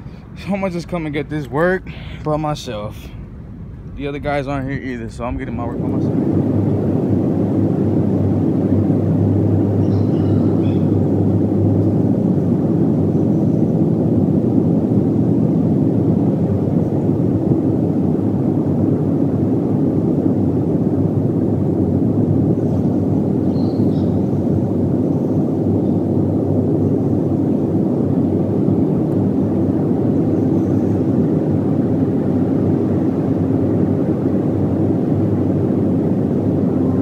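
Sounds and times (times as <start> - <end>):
loud low rumbling: 0.0 - 37.0.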